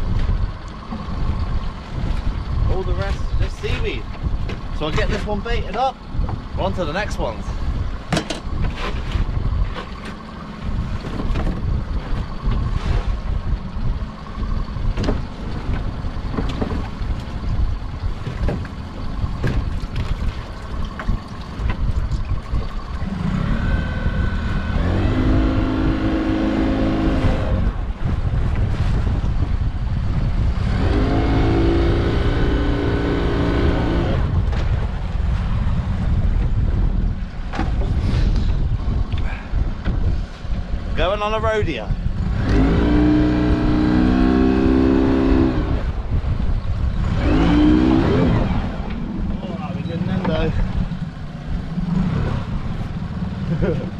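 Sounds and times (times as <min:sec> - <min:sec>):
boat motor running: 0:00.0 - 0:53.9
wind and water rumble: 0:00.0 - 0:53.9.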